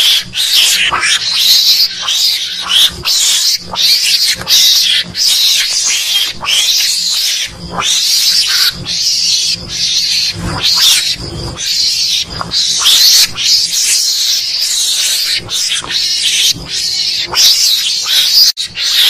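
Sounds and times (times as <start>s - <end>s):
high-pitched mongoose calls: 0.0s - 19.0s.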